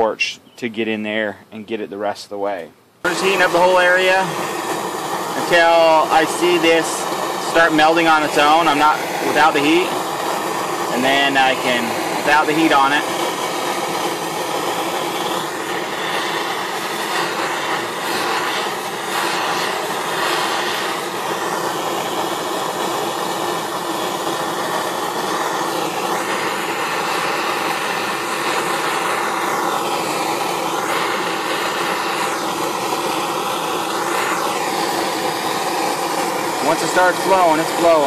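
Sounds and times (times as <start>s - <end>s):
propane torch flame hissing: 2.5s - 38.0s.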